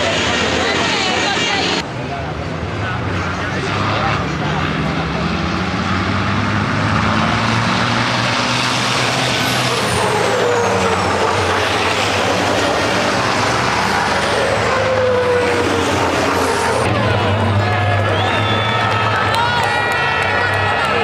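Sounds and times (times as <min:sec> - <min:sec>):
diesel truck engines racing: 0:00.0 - 0:21.0
trucks passing by: 0:00.0 - 0:21.0.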